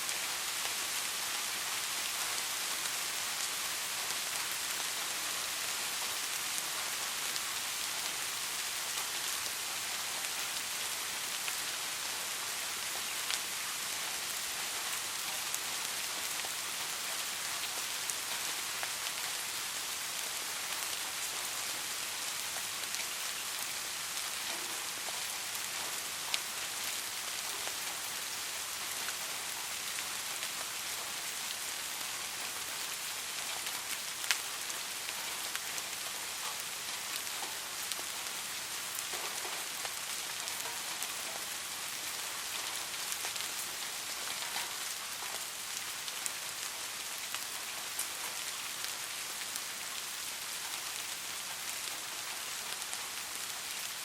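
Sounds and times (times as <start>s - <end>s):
steady soft rain: 0.0s - 54.0s.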